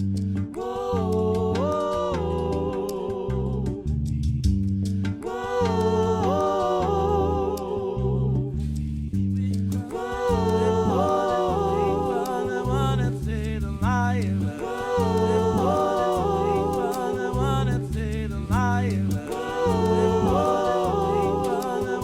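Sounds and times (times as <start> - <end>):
low bass line: 0.0 - 22.0.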